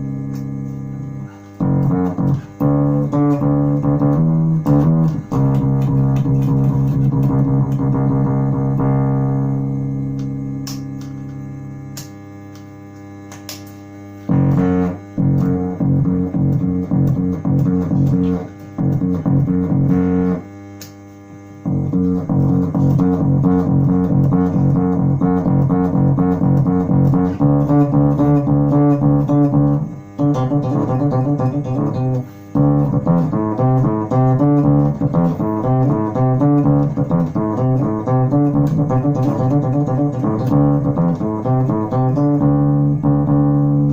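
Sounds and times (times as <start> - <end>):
distorted electric bass riff: 0.0 - 43.9
steady electrical hum: 0.0 - 43.9.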